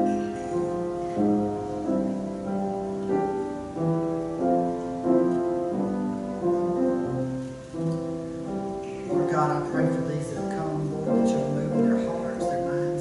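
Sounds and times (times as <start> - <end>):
slow keyboard music: 0.0 - 13.0.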